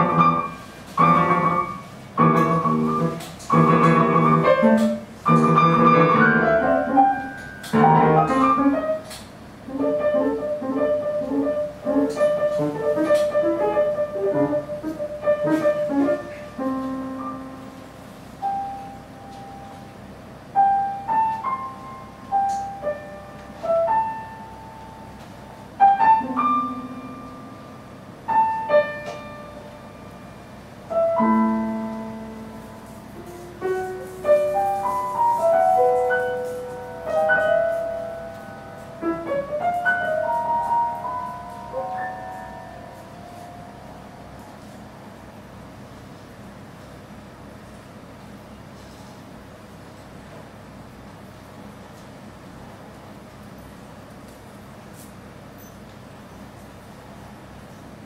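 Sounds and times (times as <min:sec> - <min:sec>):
grand piano improvising: 0:00.0 - 0:48.8.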